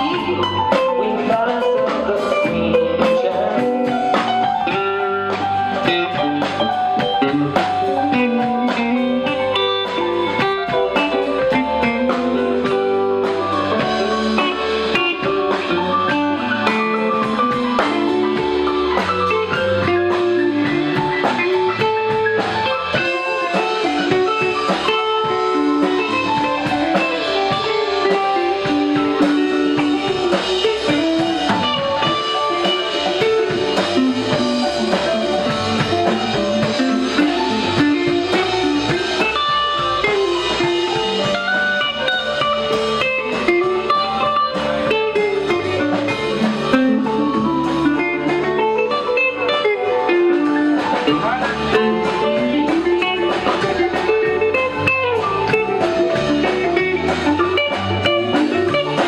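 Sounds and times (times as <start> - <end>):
bass guitar: 0.0 - 59.0
drum kit: 0.0 - 59.0
electric guitar lead line: 0.0 - 59.0.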